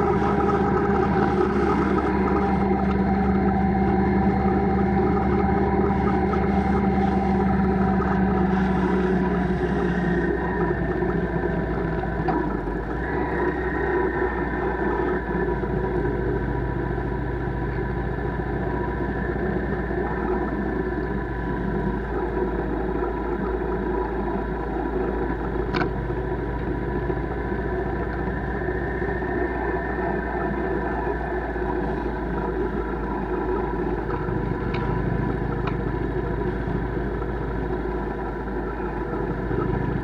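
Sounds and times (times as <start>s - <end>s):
bike running hum: 0.0s - 40.0s
road and wind noise: 7.6s - 40.0s.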